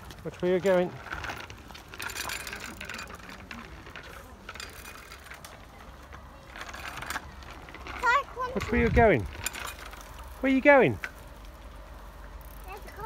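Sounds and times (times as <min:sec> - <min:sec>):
bike chain ticking and rattling: 0:00.0 - 0:13.0
bike rolling over asphalt: 0:00.0 - 0:13.0.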